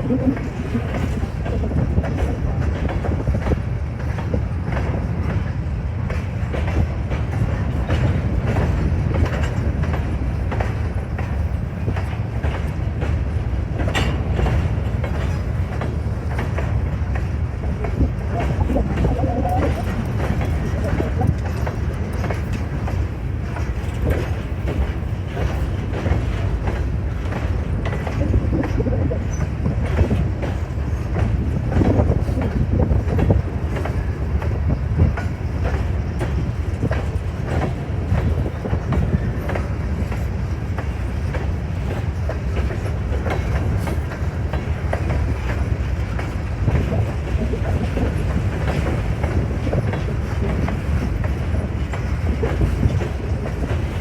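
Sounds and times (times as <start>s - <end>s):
train low rumble: 0.0s - 54.0s
train wheels clacking over rail joints: 0.0s - 54.0s.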